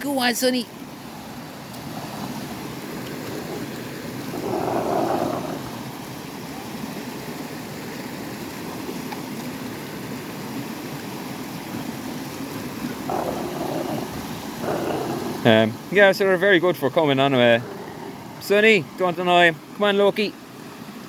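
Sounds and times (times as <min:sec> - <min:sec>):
water rushing and splashing: 0:00.0 - 0:21.0.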